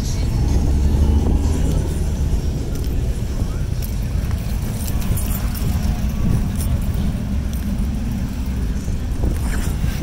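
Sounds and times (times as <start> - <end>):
low rumble of cars: 0.0 - 10.0.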